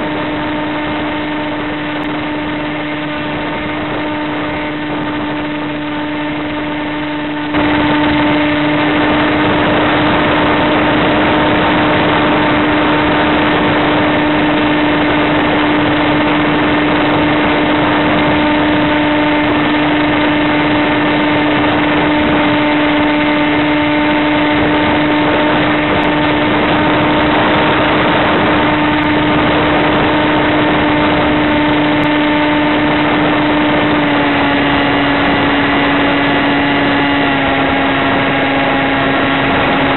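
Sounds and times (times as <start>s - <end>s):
electric motor and propeller hum: 0.0s - 39.9s
rush of airflow: 0.0s - 39.9s.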